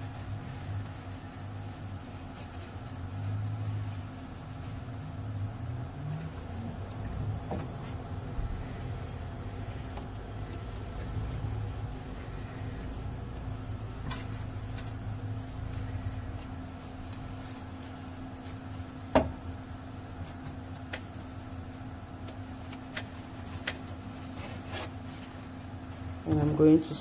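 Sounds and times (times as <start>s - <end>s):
low hum: 0.0s - 26.4s.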